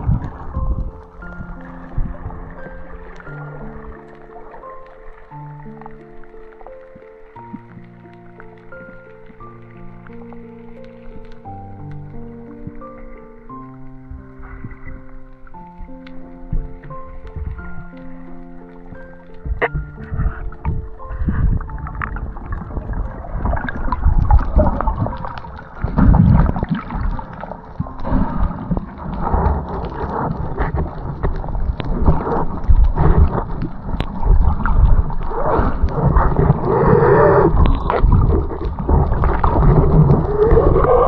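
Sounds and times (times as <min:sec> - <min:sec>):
muffled water sloshing and gurgling: 0:00.0 - 0:41.0.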